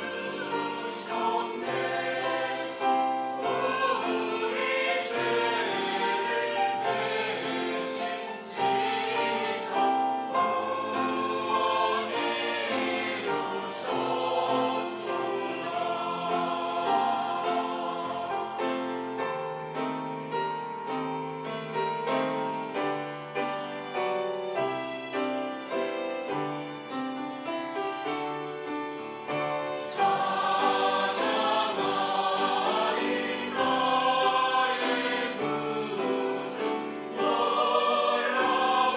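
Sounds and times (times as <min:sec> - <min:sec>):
choir singing with accompaniment: 0:00.0 - 0:20.4, 0:28.1 - 0:38.9.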